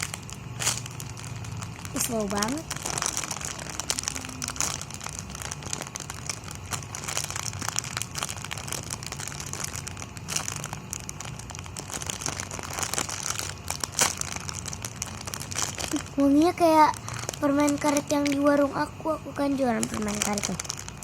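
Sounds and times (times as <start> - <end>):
squishy toy crinkling: 0.0 - 21.0.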